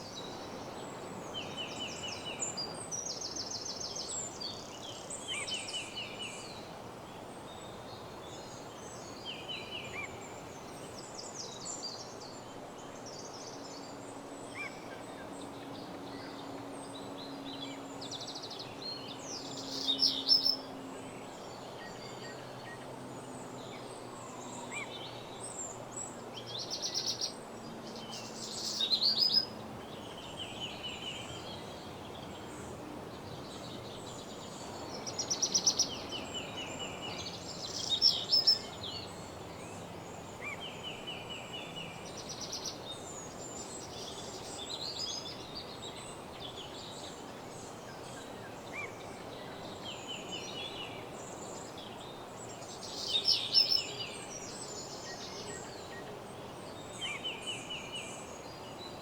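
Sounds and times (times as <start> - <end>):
songbirds chirping: 0.0 - 59.0
steady background hiss: 0.0 - 59.0.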